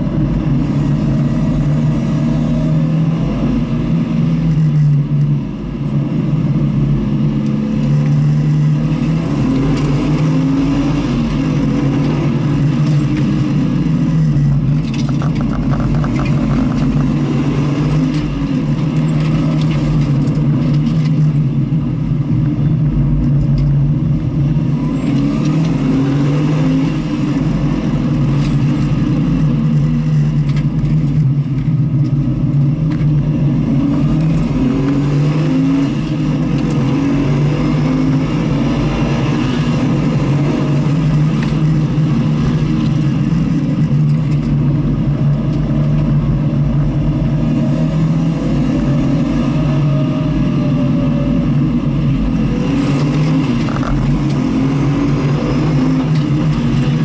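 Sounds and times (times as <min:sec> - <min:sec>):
race car engine accelerating: 0:00.0 - 0:57.0
wind and road noise: 0:00.0 - 0:57.0.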